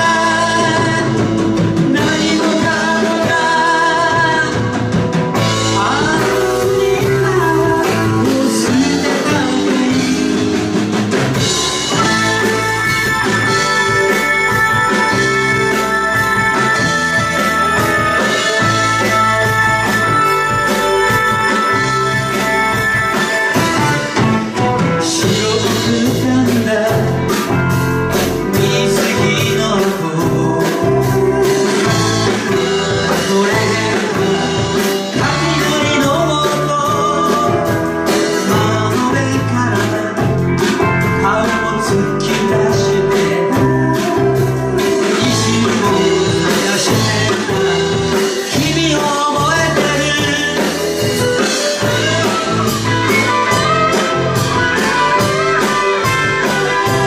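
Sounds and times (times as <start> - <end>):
live band playing: 0.0 - 57.0
person singing: 0.0 - 57.0.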